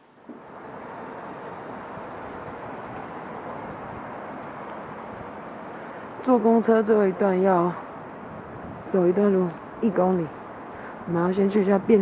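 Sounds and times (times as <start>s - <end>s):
moving bus running noise: 0.0s - 12.0s.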